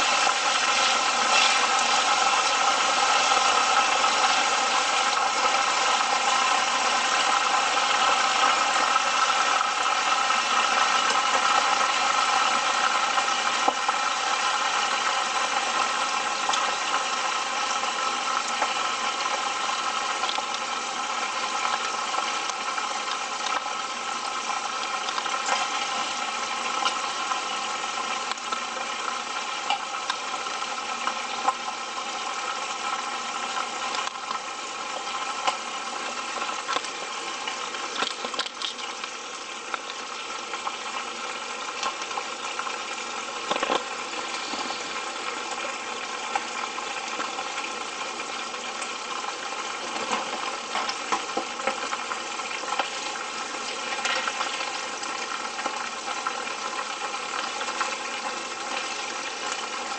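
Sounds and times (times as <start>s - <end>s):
chicken frying in oil: 0.0s - 59.9s.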